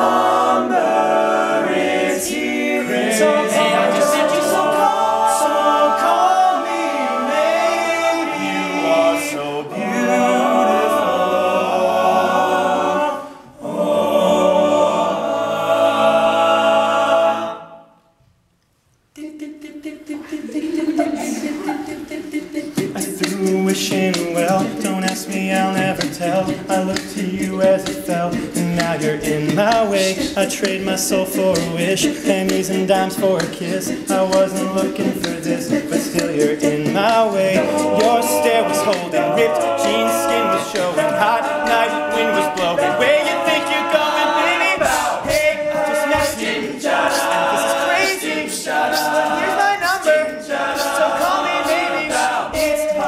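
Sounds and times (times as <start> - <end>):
male group singing in harmony: 0.0 - 17.9, 19.2 - 53.0.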